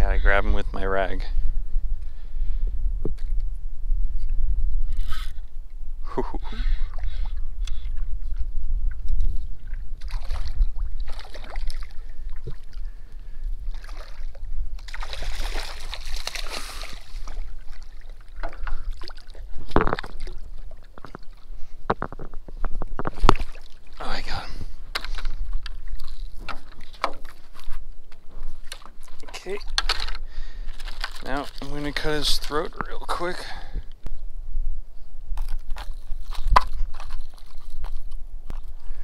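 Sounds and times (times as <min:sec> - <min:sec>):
water splashing and sloshing: 0:03.0 - 0:33.9, 0:35.4 - 0:39.0.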